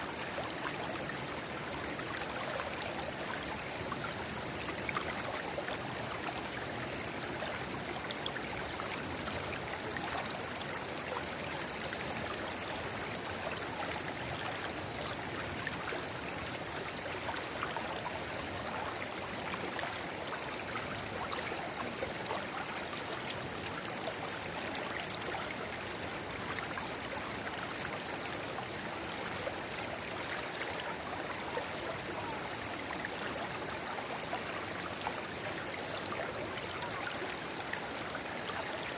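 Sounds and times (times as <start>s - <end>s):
river water babbling over stones: 0.0s - 38.9s.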